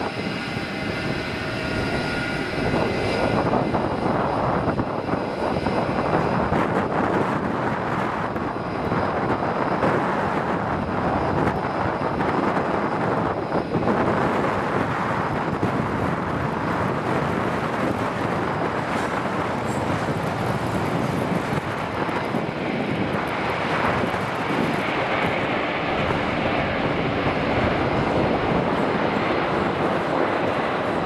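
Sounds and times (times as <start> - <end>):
jet engines rumbling and hissing: 0.0 - 31.0.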